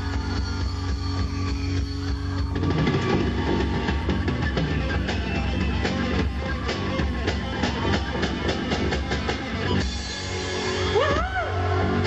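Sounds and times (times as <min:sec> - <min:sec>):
drum kit beat: 0:00.0 - 0:12.0.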